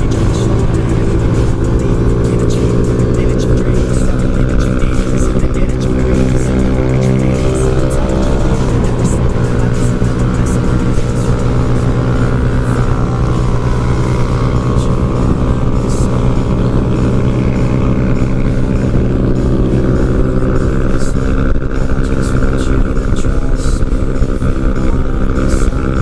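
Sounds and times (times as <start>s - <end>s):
motorcycle engine running hard: 0.0s - 26.0s.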